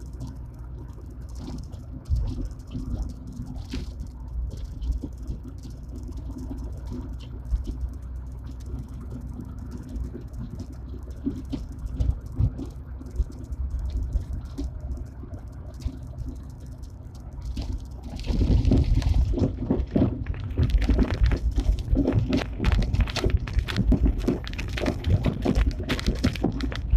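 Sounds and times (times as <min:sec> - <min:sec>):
car interior running rumble: 0:00.0 - 0:26.9
irregular knocks and rattles: 0:00.0 - 0:26.9.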